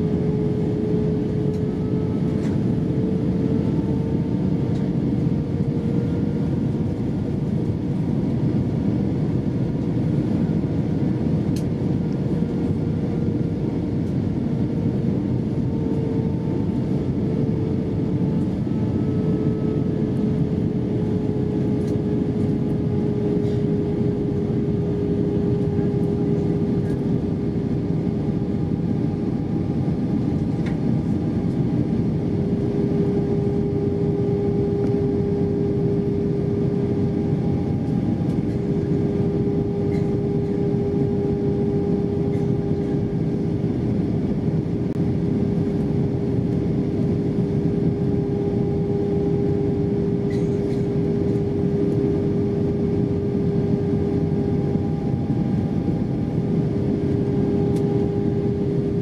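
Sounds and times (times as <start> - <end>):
airliner cabin engine rush: 0.0 - 59.0.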